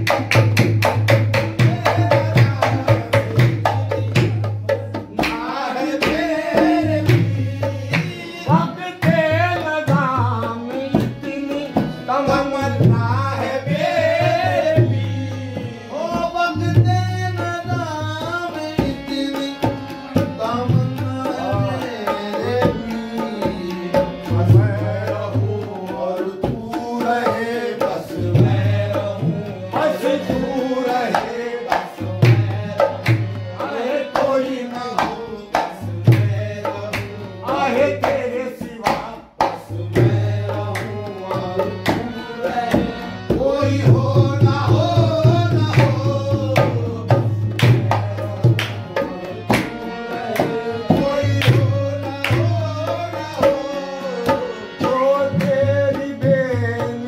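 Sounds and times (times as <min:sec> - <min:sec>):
tabla rhythm: 0:00.0 - 0:57.0.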